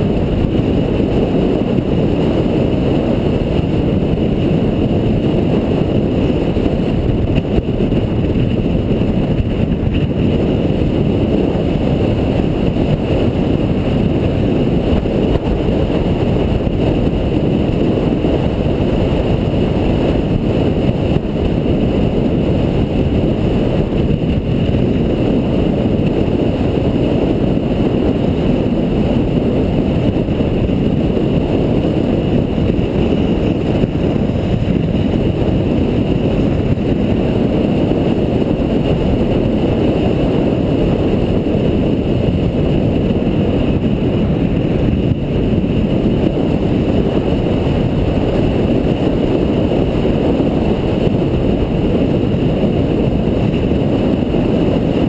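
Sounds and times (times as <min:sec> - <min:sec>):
car driving rumble: 0:00.0 - 0:55.0.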